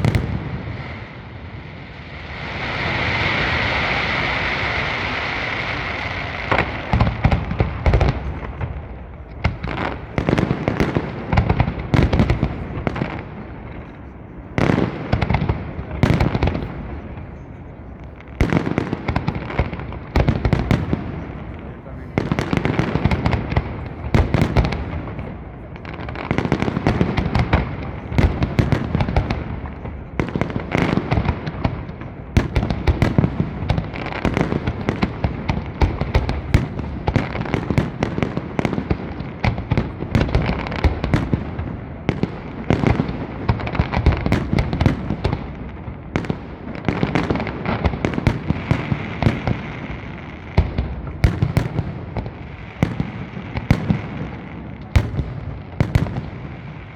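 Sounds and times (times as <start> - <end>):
fireworks bursts and bangs: 0.0 - 56.9.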